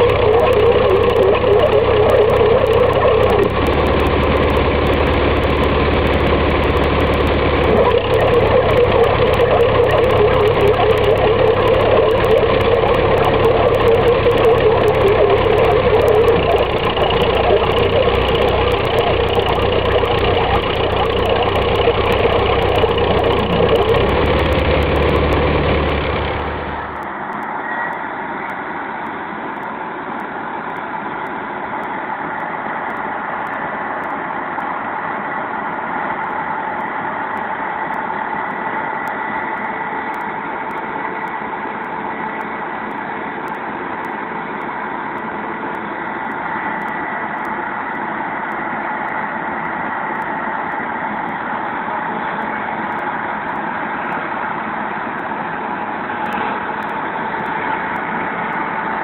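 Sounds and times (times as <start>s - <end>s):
tractor engine running: 0.0s - 27.7s, 28.4s - 59.0s.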